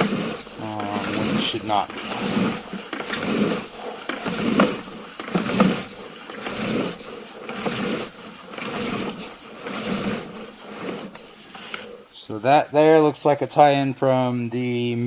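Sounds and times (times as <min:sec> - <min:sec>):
cable scraping in a pipe: 0:00.0 - 0:13.1.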